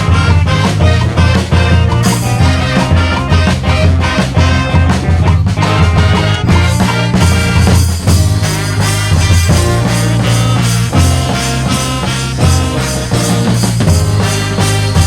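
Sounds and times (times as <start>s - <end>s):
brass band playing: 0.0s - 15.0s.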